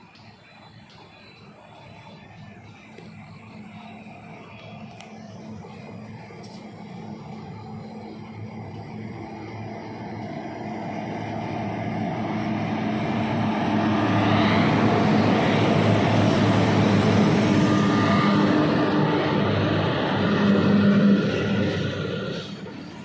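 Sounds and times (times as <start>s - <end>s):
freight train passing: 0.0s - 23.0s.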